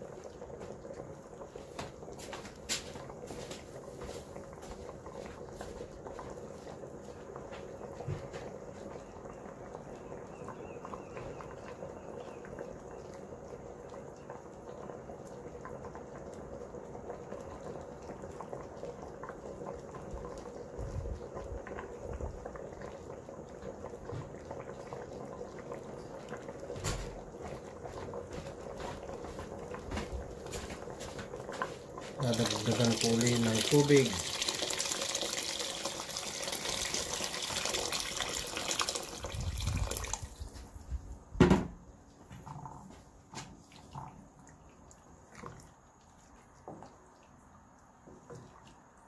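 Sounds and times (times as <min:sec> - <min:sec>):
porridge bubbling at the boil: 0:00.0 - 0:49.0.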